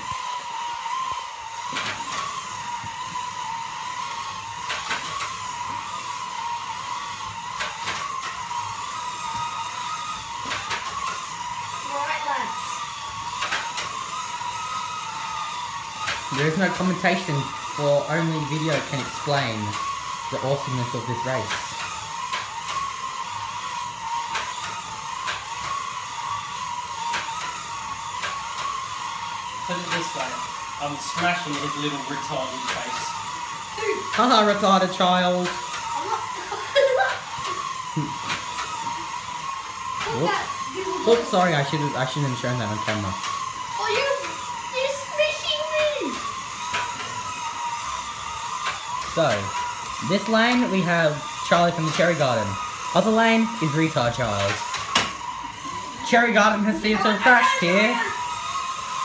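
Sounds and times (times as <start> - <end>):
slot car motors whining: 0.0 - 59.0.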